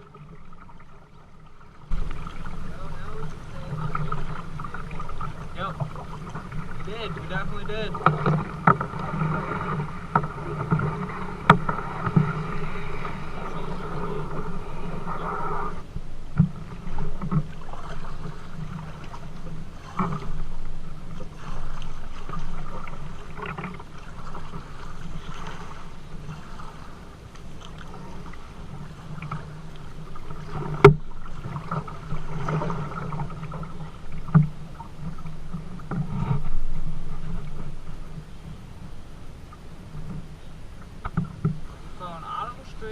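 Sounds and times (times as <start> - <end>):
paddle strokes: 0.0 - 42.9
water against hull: 0.0 - 42.9.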